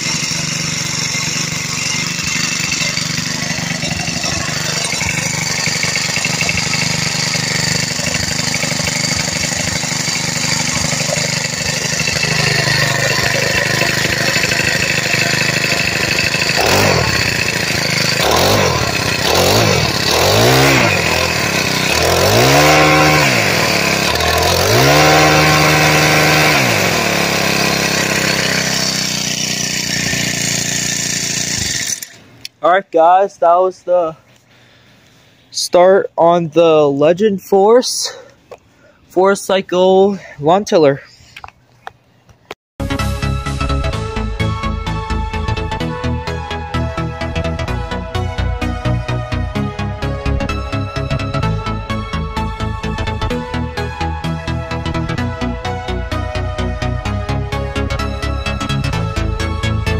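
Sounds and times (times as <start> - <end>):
tiller engine revving and idling: 0.0 - 32.6, 42.8 - 59.9.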